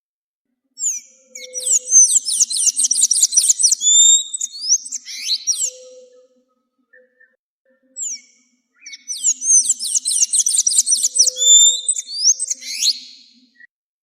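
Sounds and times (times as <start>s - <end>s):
bird whistling: 0.8s - 13.7s.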